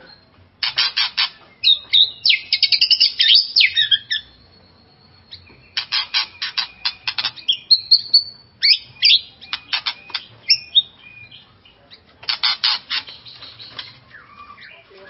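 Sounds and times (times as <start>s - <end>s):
bird whistles and trills: 0.0s - 11.4s, 12.2s - 15.0s
bird chattering harsh notes: 0.6s - 4.2s, 5.6s - 14.8s.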